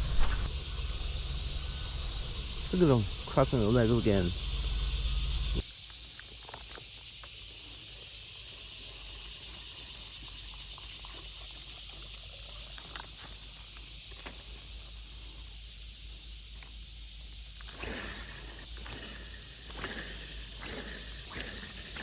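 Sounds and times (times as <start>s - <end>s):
insects singing: 0.1s - 22.0s.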